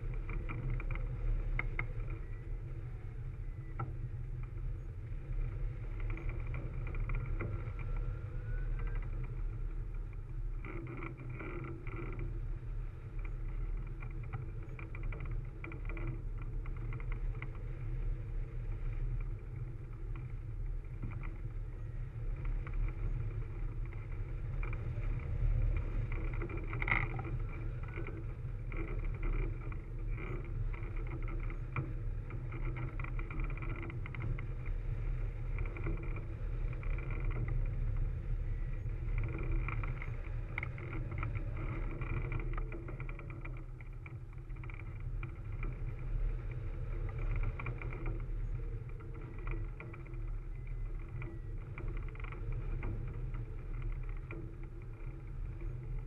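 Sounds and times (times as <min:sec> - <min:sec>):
wind rush and buffeting: 0:00.0 - 0:56.0.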